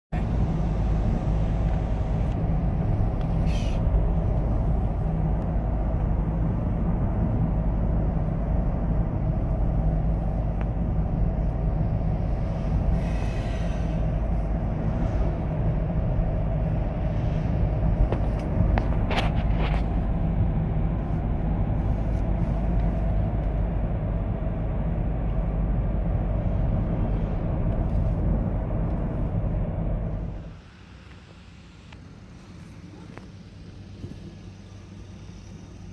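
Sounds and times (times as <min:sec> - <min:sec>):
car road and engine rumble: 0:00.1 - 0:35.9.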